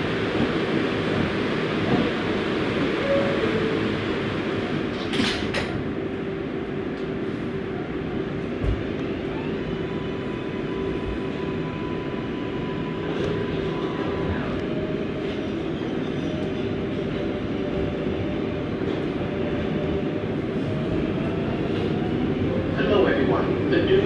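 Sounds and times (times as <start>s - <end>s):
subway train accelerating: 0.0s - 24.0s.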